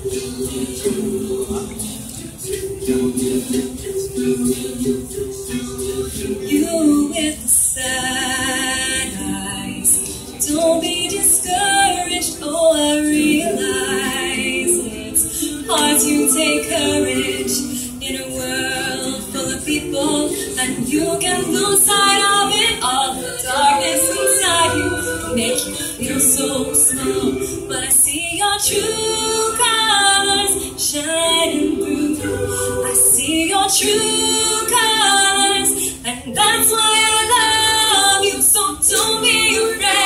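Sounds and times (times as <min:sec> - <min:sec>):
mixed choir singing a cappella: 0:00.0 - 0:40.0.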